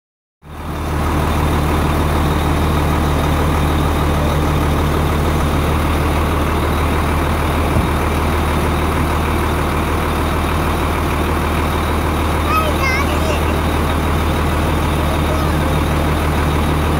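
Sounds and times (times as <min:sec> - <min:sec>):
truck engine idling: 0:00.4 - 0:16.9.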